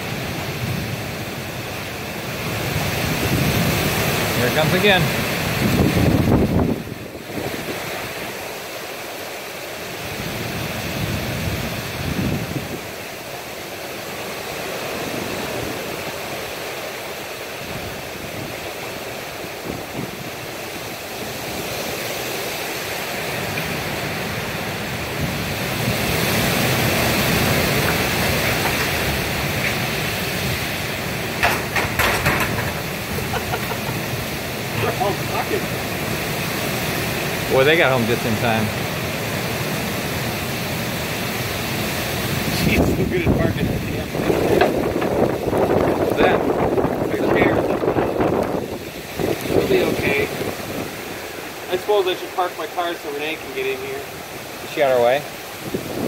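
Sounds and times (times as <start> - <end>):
wind gust on microphone: 0.0 - 8.7, 10.0 - 13.3, 17.5 - 52.0, 52.8 - 56.0
heavy rain pouring: 0.0 - 56.0
wind thrashing trees: 0.0 - 56.0.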